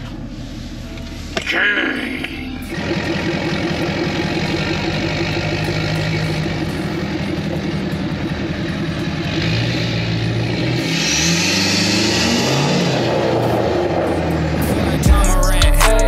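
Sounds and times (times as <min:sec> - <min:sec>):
car engine and exhaust revving: 0:00.0 - 0:16.0.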